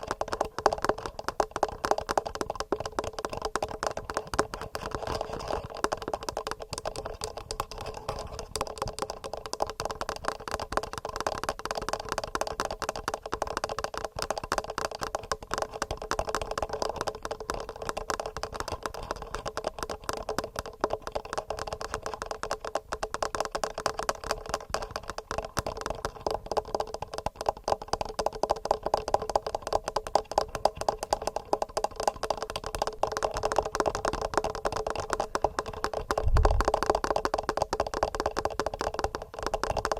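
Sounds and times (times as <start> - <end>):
fingernail tapping on recorder: 0.0 - 39.9.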